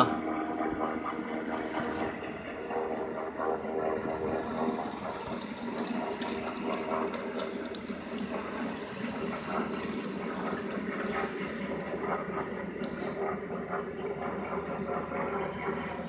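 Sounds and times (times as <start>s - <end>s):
helicopter rotor and turbine: 0.0s - 16.0s.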